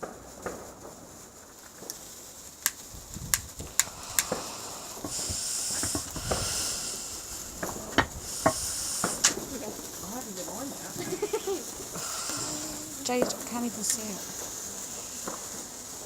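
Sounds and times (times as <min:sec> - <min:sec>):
firework crackling pops: 0:00.0 - 0:16.0
firework fizzing hiss: 0:00.0 - 0:16.0.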